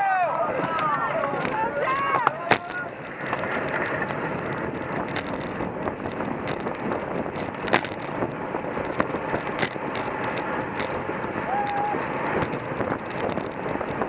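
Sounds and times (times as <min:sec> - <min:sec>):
bicycle road and drivetrain noise: 0:00.0 - 0:14.0
wind rushing on microphone: 0:00.3 - 0:14.0.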